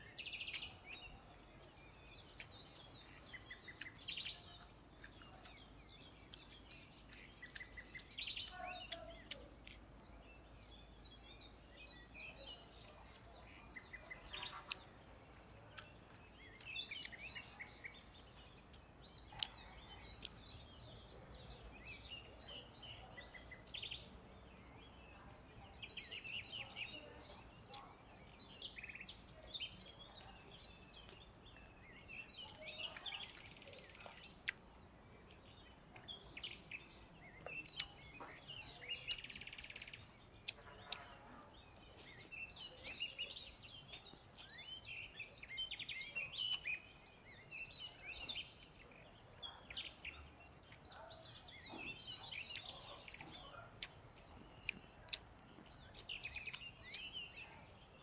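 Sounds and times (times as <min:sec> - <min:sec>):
faint outdoor background noise: 0:00.0 - 0:58.0
small birds chirping and trilling: 0:00.0 - 0:58.0.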